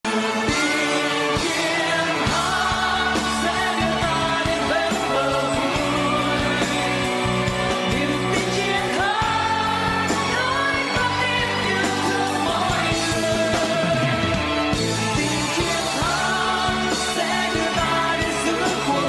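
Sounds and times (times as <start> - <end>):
pop song with singer and band: 0.1 - 19.0.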